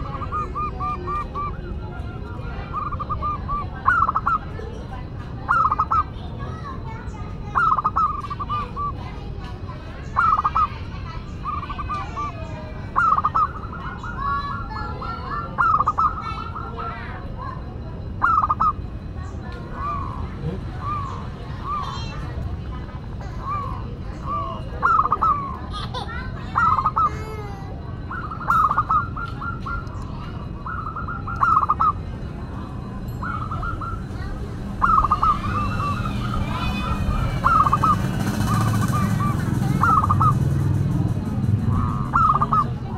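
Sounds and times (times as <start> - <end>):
dove cooing: 0.0 - 4.6, 5.4 - 6.2, 7.5 - 9.0, 10.2 - 10.8, 11.4 - 18.9, 19.7 - 22.2, 23.4 - 42.9
small birds chirping: 0.0 - 42.9.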